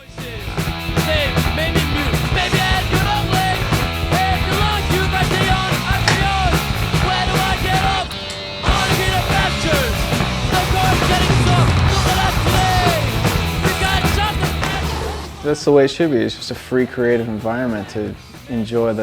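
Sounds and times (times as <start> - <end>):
punk rock song: 0.0 - 19.0.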